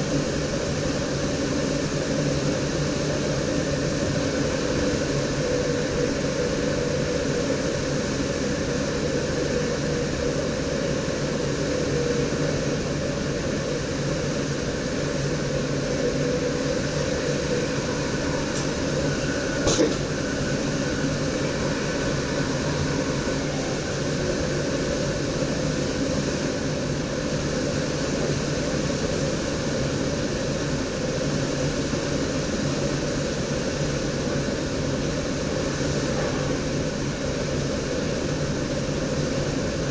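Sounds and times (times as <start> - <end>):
train cab hum: 0.0 - 39.8
rail and air noise: 0.0 - 39.9.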